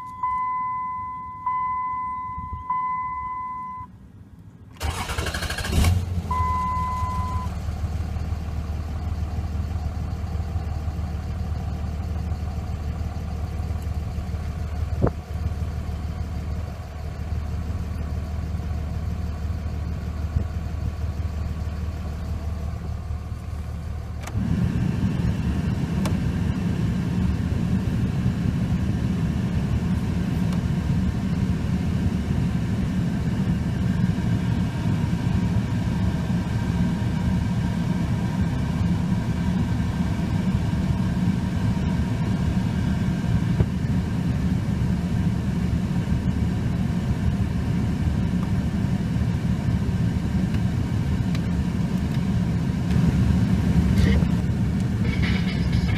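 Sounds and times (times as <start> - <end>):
diesel engine idling: 0.2 - 55.9.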